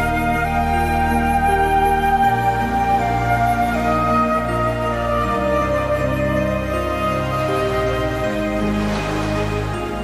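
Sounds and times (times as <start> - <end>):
soft flute-like music: 0.0 - 10.0.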